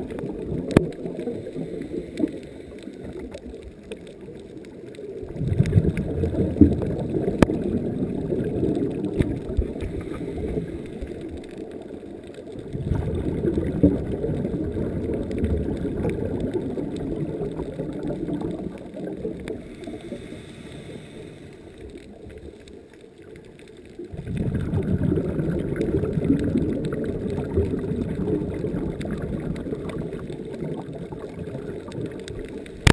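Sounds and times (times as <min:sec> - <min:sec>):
muffled underwater water gurgling: 0:00.0 - 0:32.9.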